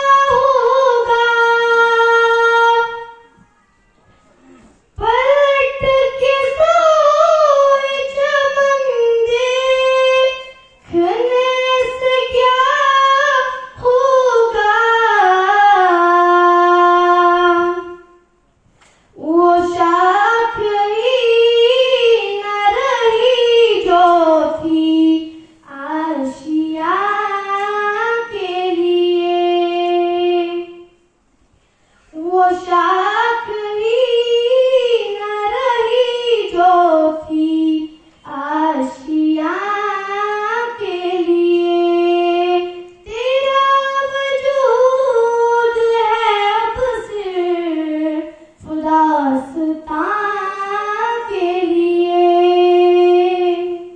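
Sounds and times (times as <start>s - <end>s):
girl singing into a microphone: 0.0s - 31.1s, 31.8s - 53.9s.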